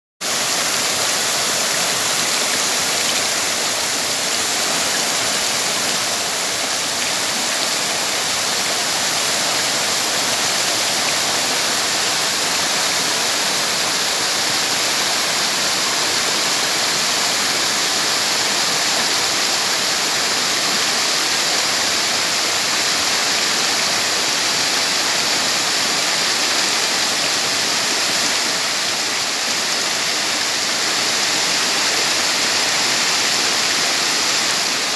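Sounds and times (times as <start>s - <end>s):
waterfall roaring: 0.2s - 34.9s.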